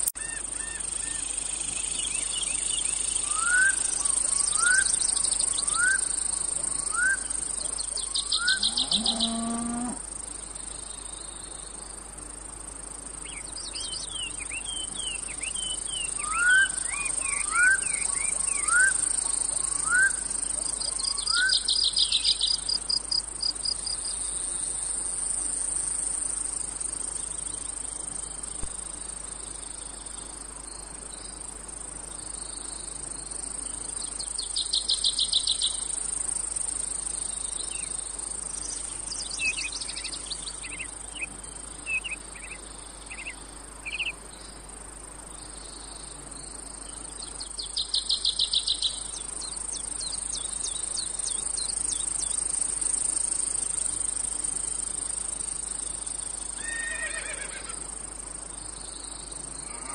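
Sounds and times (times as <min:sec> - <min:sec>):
cicadas droning: 0:00.0 - 0:59.9
loud pulsing cicada trill: 0:00.0 - 0:59.9.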